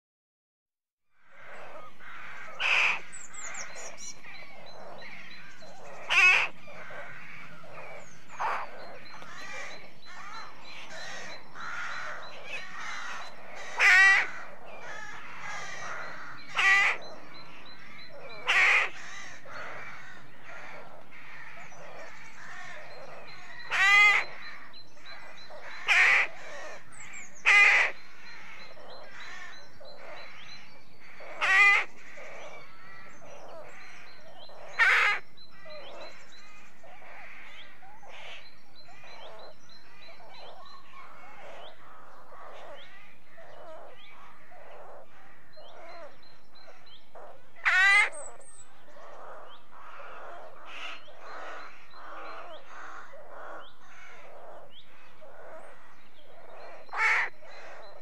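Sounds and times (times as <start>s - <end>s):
rooks calling: 1.1s - 58.0s
harsh rook caws: 1.2s - 30.4s, 31.0s - 40.2s, 46.7s - 48.2s, 48.9s - 56.0s, 56.6s - 57.9s.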